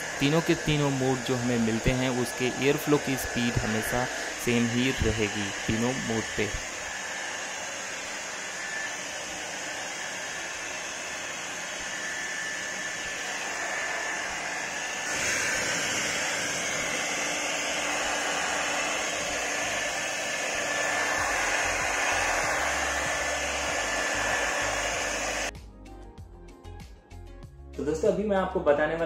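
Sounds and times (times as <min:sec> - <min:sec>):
hair dryer blowing: 0:00.0 - 0:25.5.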